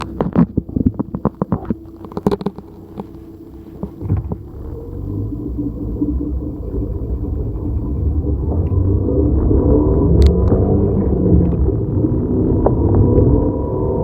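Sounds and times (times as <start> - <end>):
car starter cranking: 0.0 - 13.3
car engine rumbling: 0.0 - 14.0.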